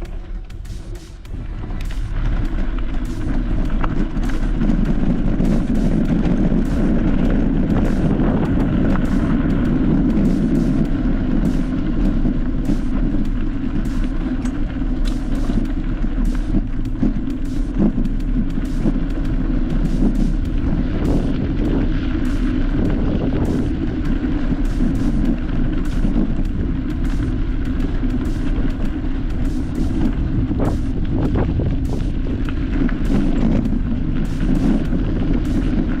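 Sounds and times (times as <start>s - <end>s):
engine and tyre rumble: 0.0s - 36.0s.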